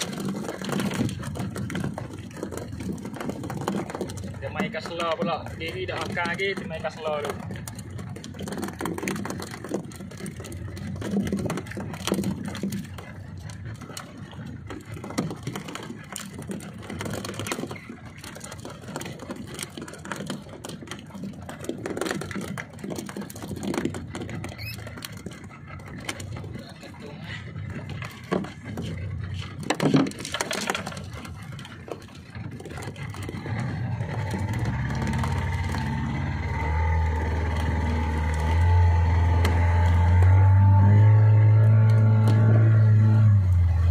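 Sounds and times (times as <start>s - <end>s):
fishing tackle clicks and rustles: 0.0s - 43.9s
wind and water: 0.0s - 43.9s.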